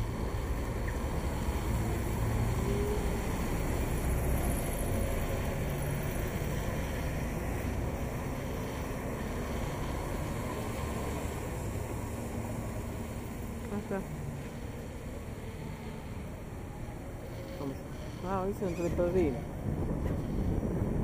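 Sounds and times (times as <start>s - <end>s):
cars and buses passing: 0.0s - 21.0s
city traffic rumble: 0.0s - 21.0s.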